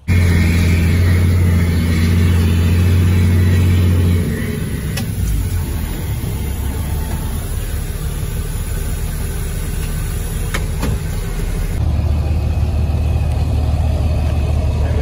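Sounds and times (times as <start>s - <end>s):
diesel truck engine driving: 0.0s - 15.0s
diesel truck idling: 0.0s - 15.0s.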